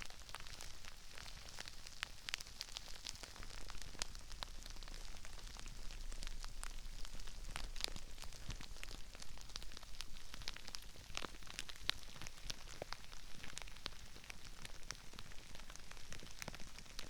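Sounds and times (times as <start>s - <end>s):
crispy rice crackling: 0.0s - 17.0s.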